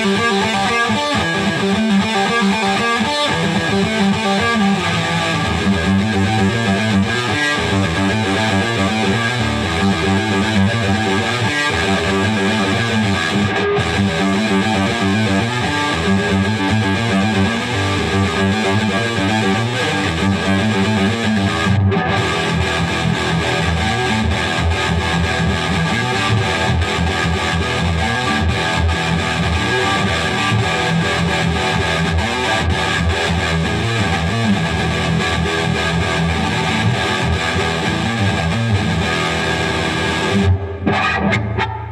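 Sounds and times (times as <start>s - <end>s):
distorted electric guitar riffing: 0.0s - 41.9s.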